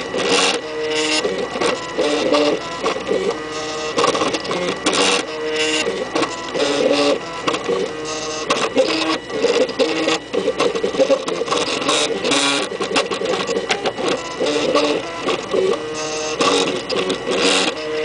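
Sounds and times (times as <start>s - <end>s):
stepper motors whining: 0.0s - 18.0s.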